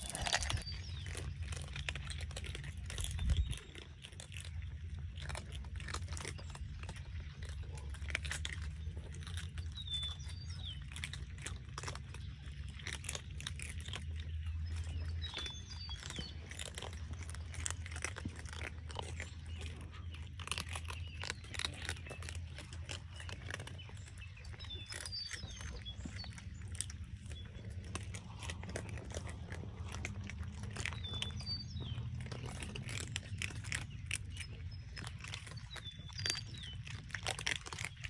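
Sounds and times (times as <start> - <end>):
cats crunching dry kibble: 0.0 - 38.0.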